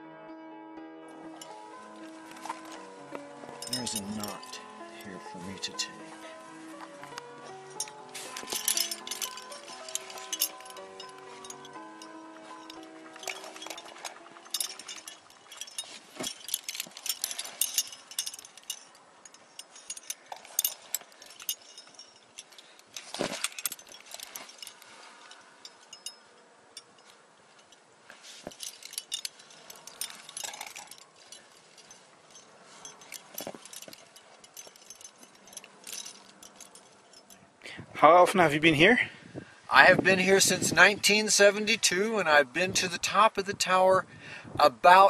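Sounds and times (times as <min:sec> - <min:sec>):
carabiners clinking and jangling: 0:01.2 - 0:39.0, 0:39.7 - 0:43.8.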